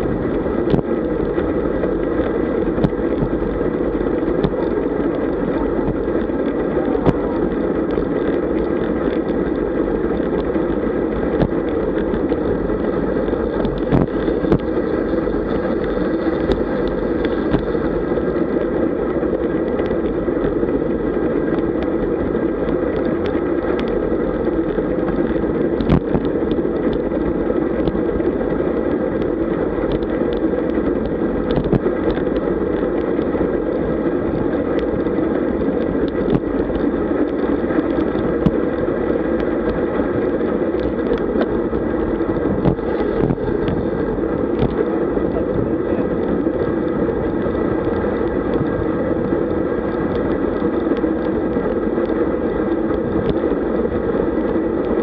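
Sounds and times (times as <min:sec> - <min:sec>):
road noise: 0:00.0 - 0:28.6, 0:29.2 - 0:55.0
wind rush on microphone: 0:00.0 - 0:55.0.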